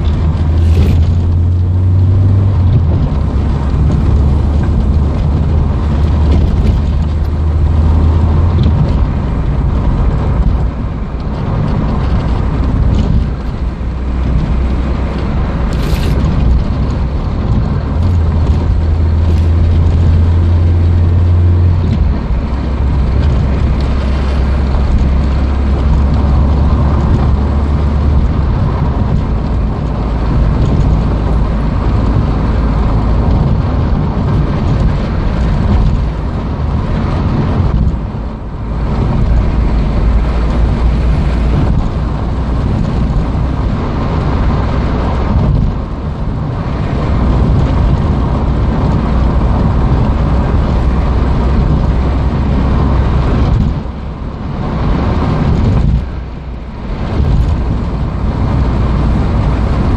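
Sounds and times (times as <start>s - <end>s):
car engine running: 0.0s - 59.9s
road and tyre noise: 0.0s - 59.9s.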